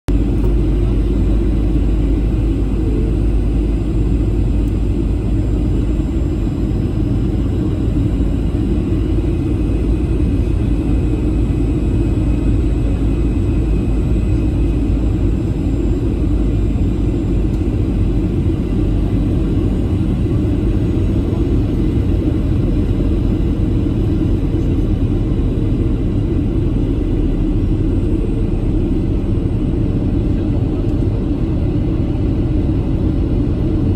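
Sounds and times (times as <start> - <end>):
airflow over fuselage: 0.1 - 33.9
airplane cabin engine rumble: 0.1 - 33.9.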